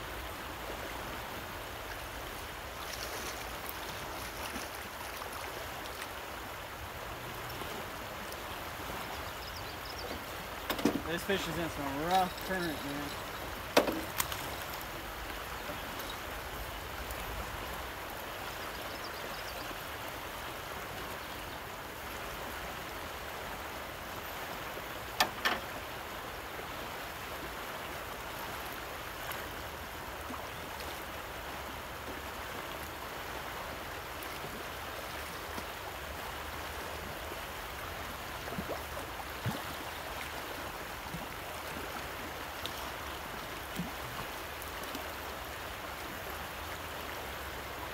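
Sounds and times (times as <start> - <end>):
rough river current rushing: 0.0 - 47.9.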